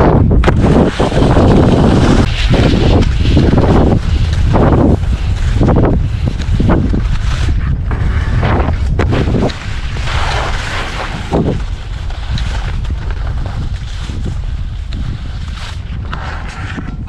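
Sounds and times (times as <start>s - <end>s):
ski scraping hard snow: 0.0s - 17.0s
wind buffeting microphone: 0.0s - 17.0s.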